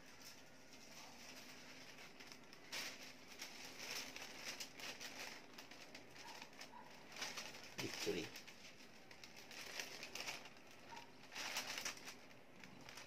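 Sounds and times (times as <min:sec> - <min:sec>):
paper kite rustling: 0:00.0 - 0:13.0.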